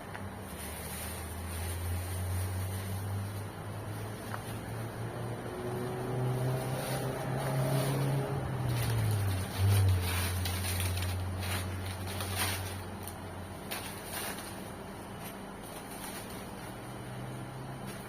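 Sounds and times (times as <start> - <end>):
rustling and crackles: 0.0 - 18.0.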